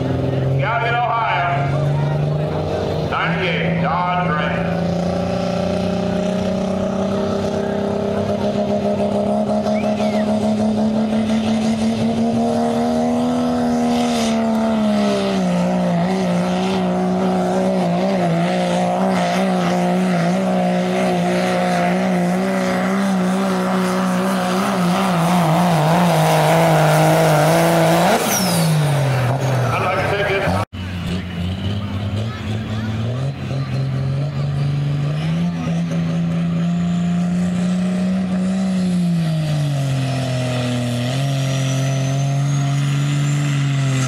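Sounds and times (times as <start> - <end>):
diesel engine at full throttle: 0.0 - 44.0.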